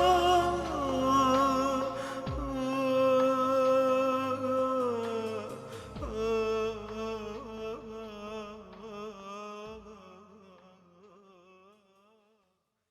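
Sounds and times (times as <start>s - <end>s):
wordless chanted voice: 0.0s - 11.8s.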